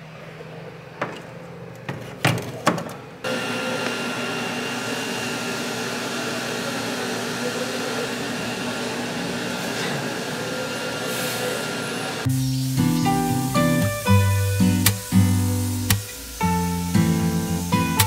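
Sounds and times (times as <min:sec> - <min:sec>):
spray equipment motor hum and whine: 0:03.3 - 0:18.0.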